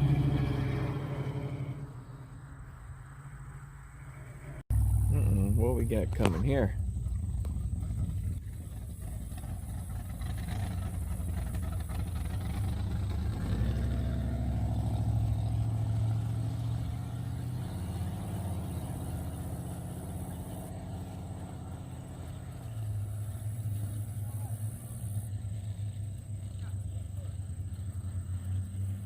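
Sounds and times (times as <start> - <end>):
car engine driving past: 0.0 - 29.0.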